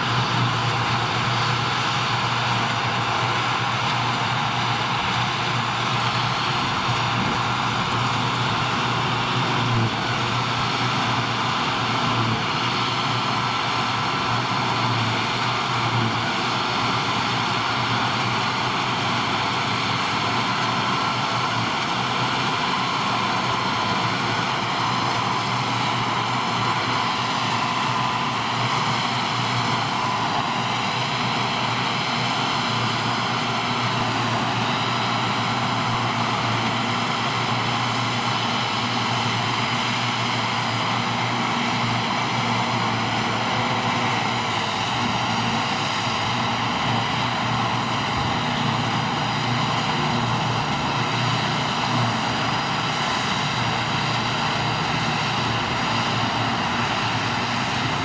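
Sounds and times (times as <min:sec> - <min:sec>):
engines and harvester droning: 0:00.0 - 0:58.0.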